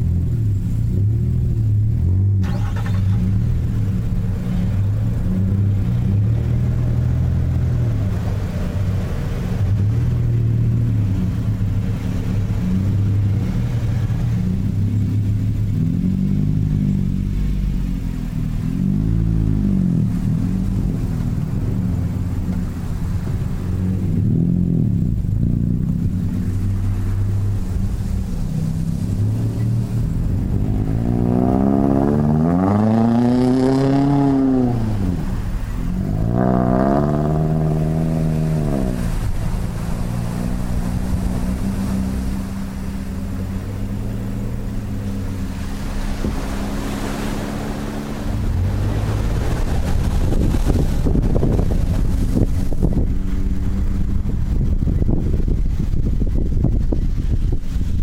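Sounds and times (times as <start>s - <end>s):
pickup truck engine revving: 0.0s - 57.9s.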